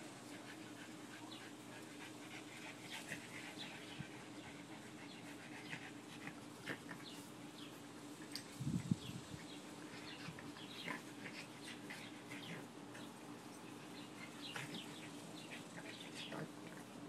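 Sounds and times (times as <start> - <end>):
dog panting: 0.0 - 7.7, 9.0 - 17.0.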